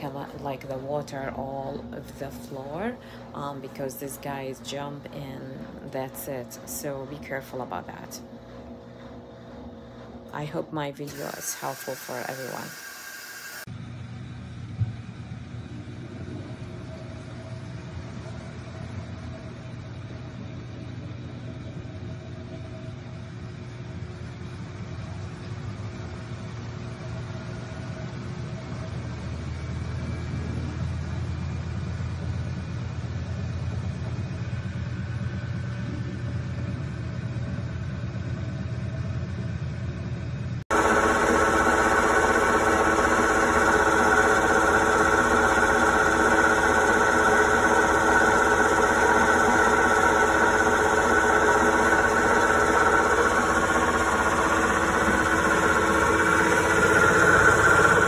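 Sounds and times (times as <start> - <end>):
washing machine motor hum: 0.0 - 58.0
washing machine spin cycle whine: 0.0 - 58.0.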